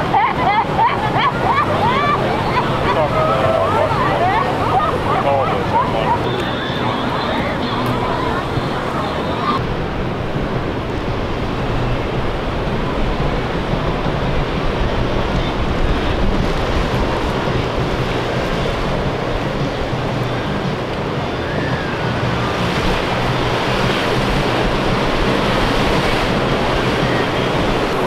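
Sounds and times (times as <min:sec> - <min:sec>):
ocean surf: 0:00.0 - 0:28.0
wind buffeting the microphone: 0:00.0 - 0:28.0.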